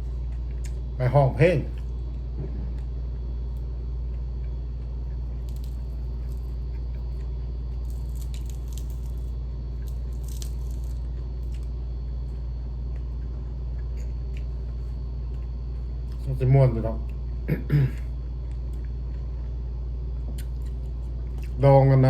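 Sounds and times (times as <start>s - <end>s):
chewing crispy food: 0.0s - 1.0s, 1.7s - 16.4s, 18.1s - 21.6s
steady low hum: 0.0s - 22.0s.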